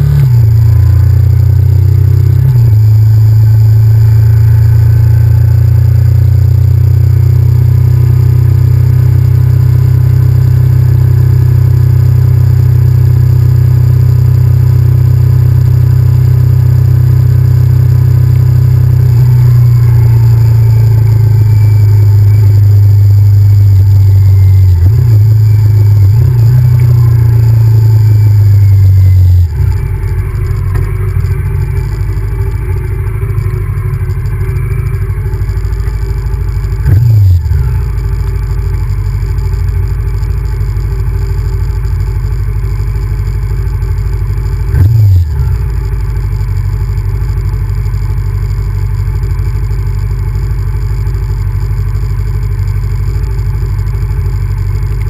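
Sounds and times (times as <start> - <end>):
motorcycle engine revving: 0.0 - 49.5
motorcycle engine running: 0.0 - 55.0.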